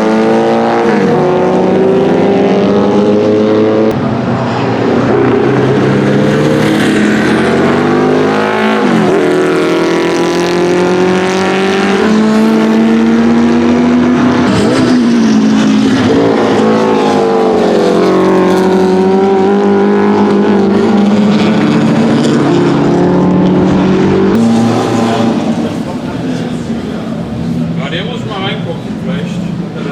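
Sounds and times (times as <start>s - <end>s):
racing engine revving: 0.0s - 29.9s.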